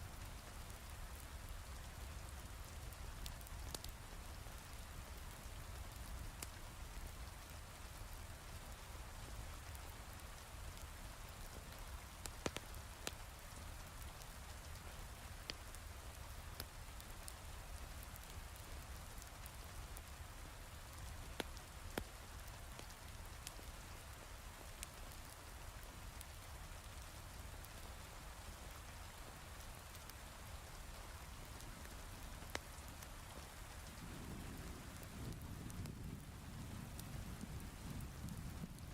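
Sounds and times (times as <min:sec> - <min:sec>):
log fire crackling: 0:00.0 - 0:38.9
heavy rain: 0:07.5 - 0:38.9.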